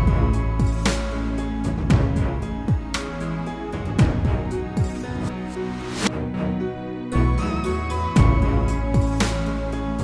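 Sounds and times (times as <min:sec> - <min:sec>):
deep bass: 0:00.0 - 0:05.4, 0:07.2 - 0:10.0
instrumental music sustained notes: 0:00.0 - 0:10.0.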